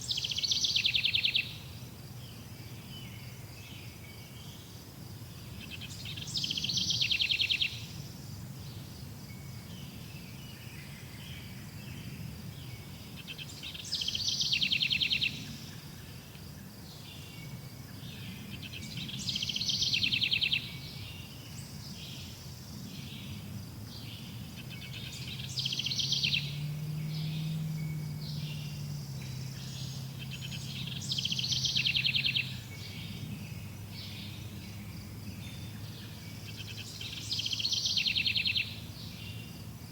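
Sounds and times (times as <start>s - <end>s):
faint high insect-like drone: 0.0s - 39.9s
songbird singing with trill: 0.0s - 39.9s.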